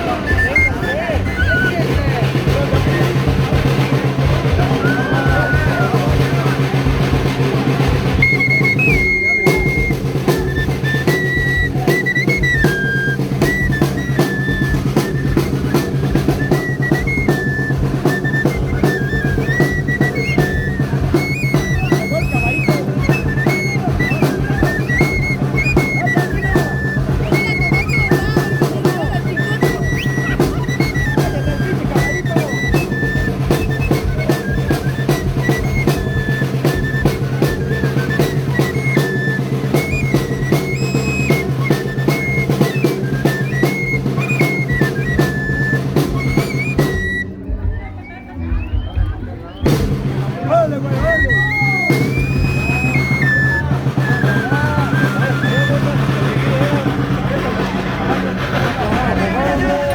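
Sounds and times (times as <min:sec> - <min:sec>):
fast drum beat: 0:00.0 - 0:59.9
high pipe melody: 0:00.0 - 0:59.9.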